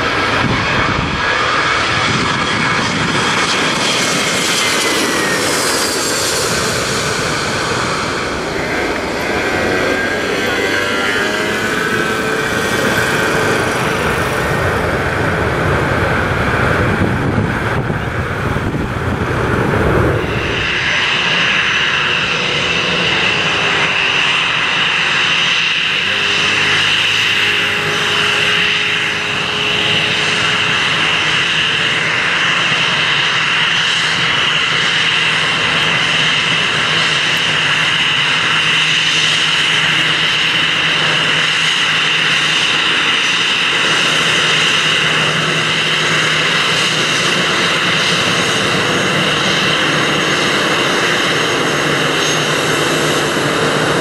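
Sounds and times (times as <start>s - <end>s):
distant jet engine roar: 0.0s - 54.0s
jet engines whining: 0.0s - 54.0s.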